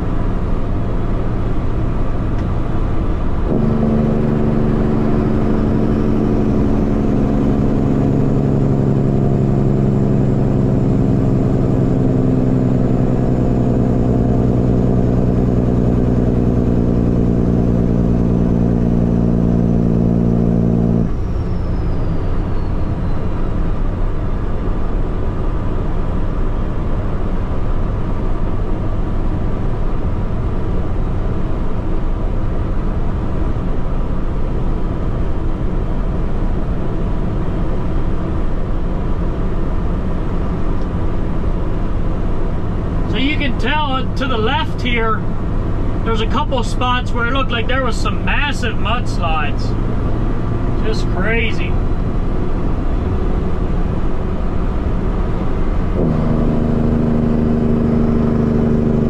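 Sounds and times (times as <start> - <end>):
road noise: 0.0 - 59.0
truck diesel engine droning: 0.0 - 59.0.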